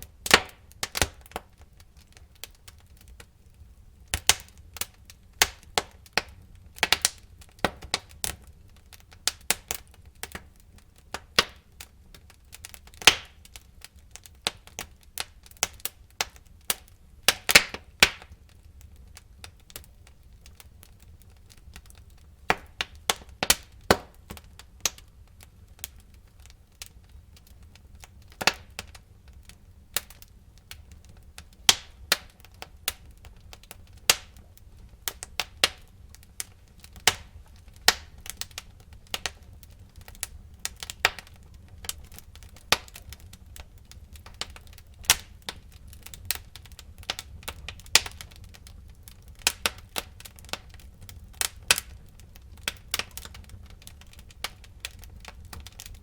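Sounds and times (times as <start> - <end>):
fire crackling and popping: 0.0 - 56.0
low rumble of fire: 0.0 - 56.0.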